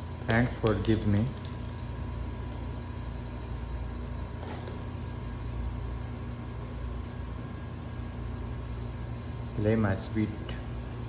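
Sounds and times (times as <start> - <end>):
low mechanical room hum: 0.0 - 11.0.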